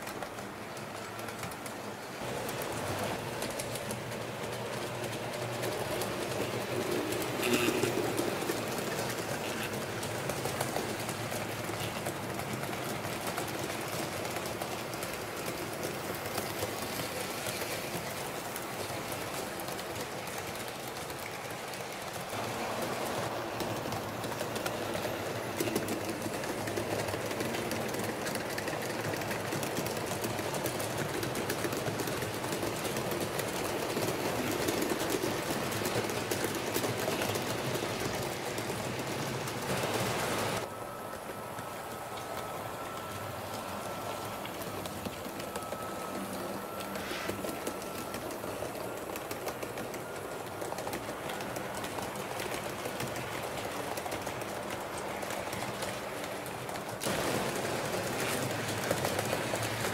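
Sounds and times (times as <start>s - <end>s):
model train wheels rolling: 0.0s - 59.9s.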